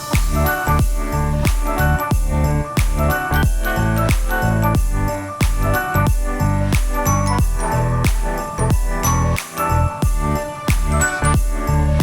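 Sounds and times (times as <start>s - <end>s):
background music with chiming notes: 0.0s - 12.0s.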